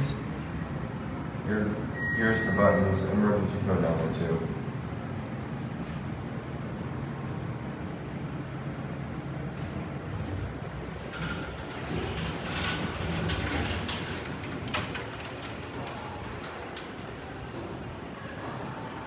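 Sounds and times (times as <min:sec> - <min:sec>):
elevator hum: 0:00.0 - 0:19.0.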